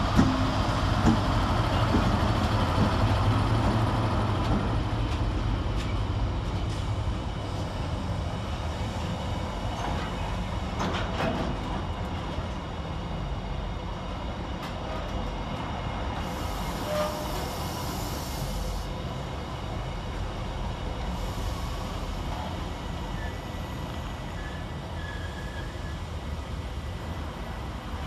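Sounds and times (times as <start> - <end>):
diesel locomotive engine hum: 0.0 - 28.0
wagons rumbling on rails: 0.0 - 28.0.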